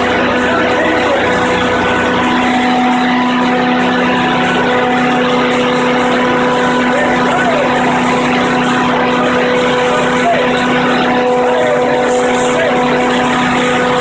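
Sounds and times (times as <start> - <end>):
engine generator humming: 0.0 - 14.0.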